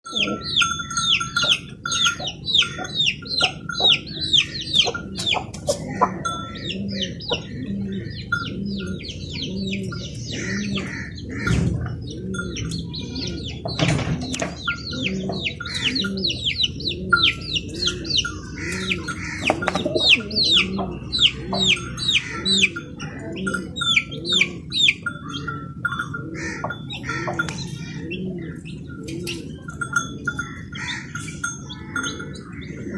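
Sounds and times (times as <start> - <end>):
small birds chirping: 0.0 - 32.9
pigeons cooing: 0.1 - 32.9.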